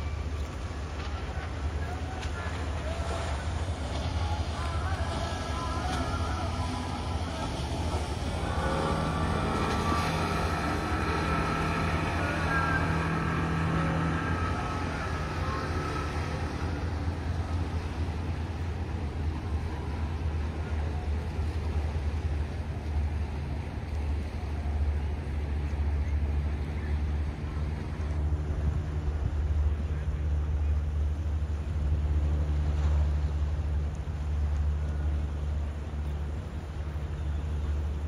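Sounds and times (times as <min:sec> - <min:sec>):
rumble of wind and water: 0:00.0 - 0:38.0
speedboat engine passing: 0:00.0 - 0:38.0.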